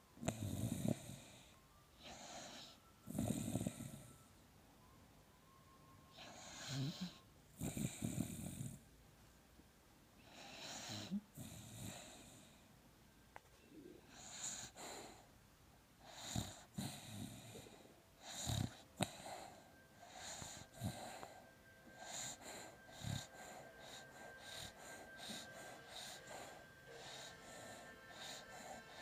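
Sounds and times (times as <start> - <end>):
faint steady tone: 0.0 - 29.0
puppy snoring and wheezing: 0.2 - 4.3, 6.1 - 8.9, 10.2 - 12.6, 14.0 - 15.3, 16.0 - 29.0.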